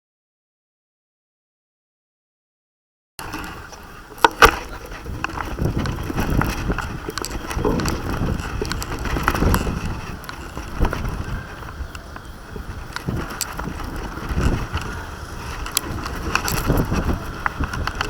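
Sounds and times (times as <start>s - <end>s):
wind buffeting microphone: 3.2s - 18.0s.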